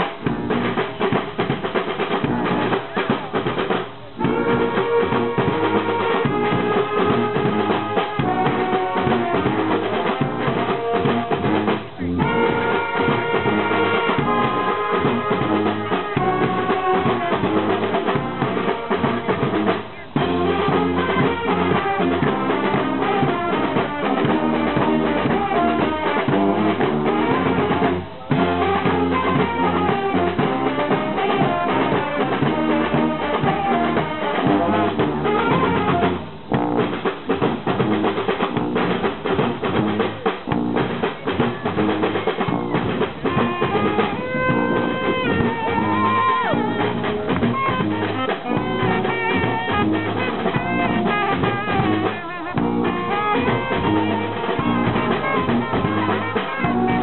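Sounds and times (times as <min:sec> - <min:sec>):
bass drum: 0:00.0 - 0:57.0
snare drums: 0:00.0 - 0:57.0
sousaphones: 0:00.0 - 0:57.0
saxophones: 0:02.2 - 0:57.0.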